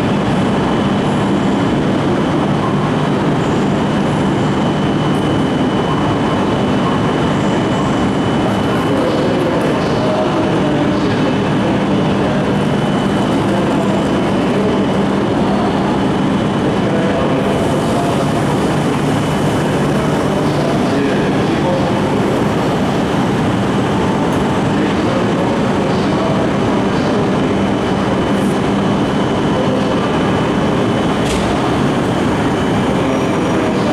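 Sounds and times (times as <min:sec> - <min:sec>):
train arriving: 0:00.0 - 0:33.9.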